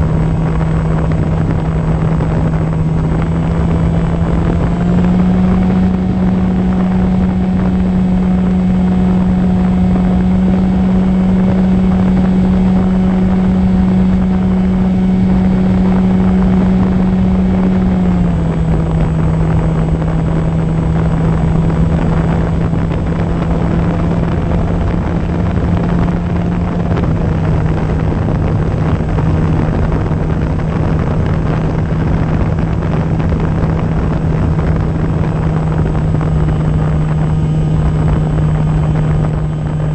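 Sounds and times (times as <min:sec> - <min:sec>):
electric motor and propeller droning: 0:00.0 - 0:39.9
wind rushing over microphone: 0:00.0 - 0:39.9.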